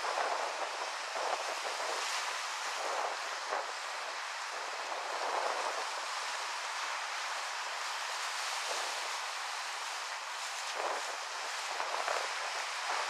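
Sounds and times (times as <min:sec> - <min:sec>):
surf on shore: 0:00.0 - 0:13.0
wind: 0:00.0 - 0:13.0.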